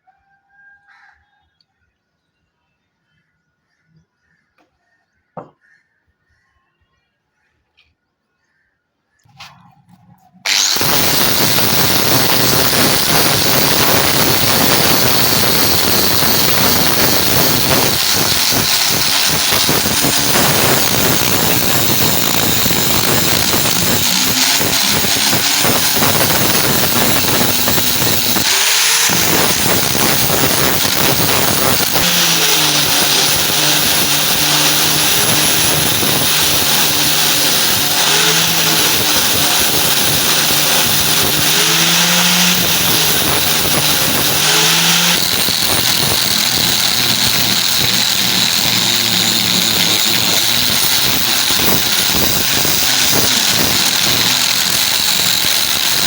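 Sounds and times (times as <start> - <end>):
power grinder abrasive hiss: 10.5 - 56.0.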